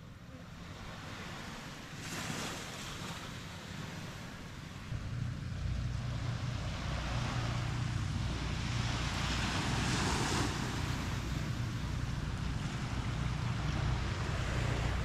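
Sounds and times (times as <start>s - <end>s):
wind rumble on microphone: 0.0s - 15.0s
small waves washing onto sand: 0.3s - 15.0s.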